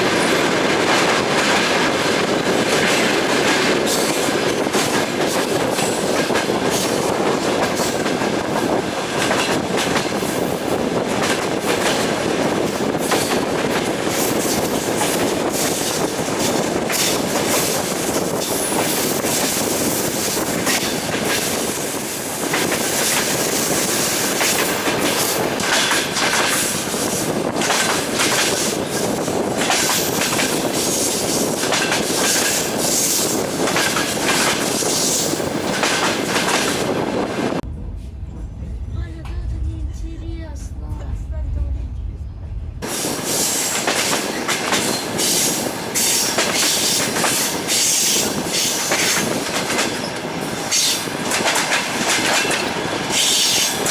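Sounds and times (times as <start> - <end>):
wheels clickety-clack over rail joints: 0.0 - 37.6, 42.8 - 53.9
train rumble: 0.0 - 53.9.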